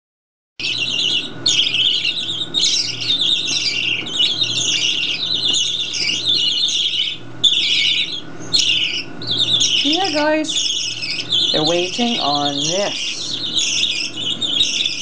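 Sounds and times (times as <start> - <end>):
baby budgerigars begging cries: 0.6 - 15.0.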